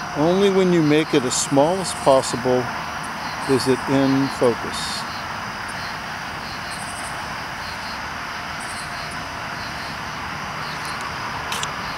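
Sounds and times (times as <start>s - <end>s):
insects chirping: 0.0s - 11.9s
steady hiss: 0.0s - 11.9s.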